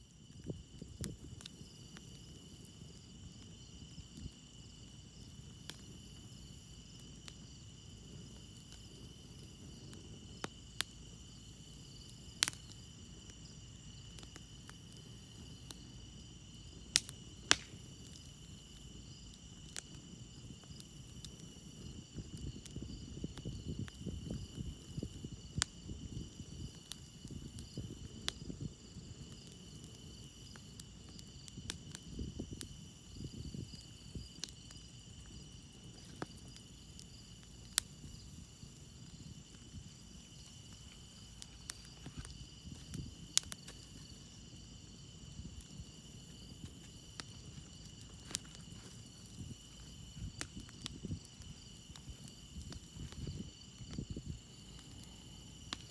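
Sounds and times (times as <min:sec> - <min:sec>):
campfire crackling: 0:00.0 - 0:55.9
crickets chirring: 0:00.0 - 0:55.9.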